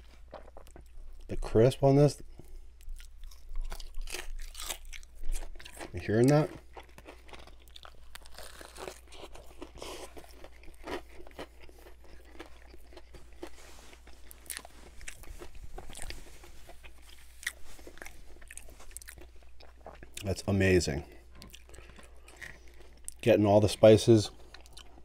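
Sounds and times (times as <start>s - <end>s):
crunchy chewing: 2.8s - 20.4s, 21.0s - 25.0s.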